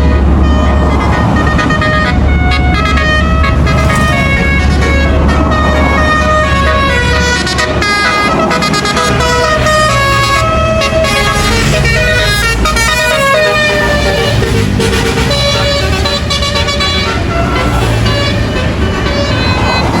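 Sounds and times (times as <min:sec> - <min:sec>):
bus engine rumble: 0:00.0 - 0:20.0
bus horn playing a melody: 0:00.0 - 0:20.0.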